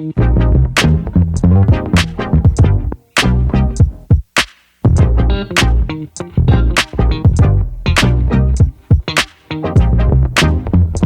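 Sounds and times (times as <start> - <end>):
funky groove music: 0.0 - 11.0.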